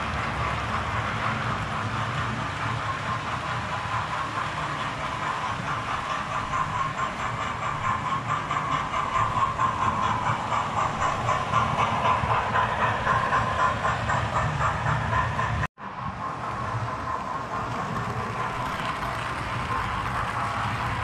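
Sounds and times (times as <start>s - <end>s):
wheels rattling on rails: 0.0s - 21.0s.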